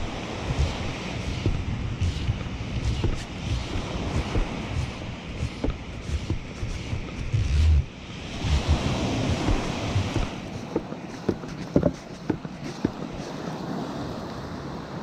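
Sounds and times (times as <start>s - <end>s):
wind buffeting microphone: 0.0s - 14.1s
surf breaking on beach: 0.0s - 15.0s.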